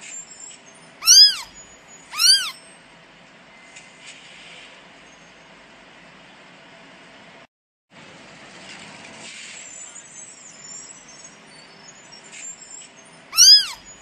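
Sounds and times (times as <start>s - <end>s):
faint street traffic: 0.0s - 14.0s.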